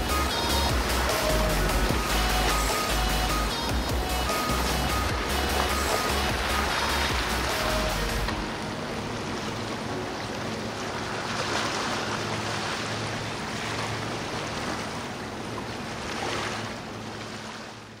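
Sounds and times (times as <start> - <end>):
ocean surf: 0.0 - 18.0.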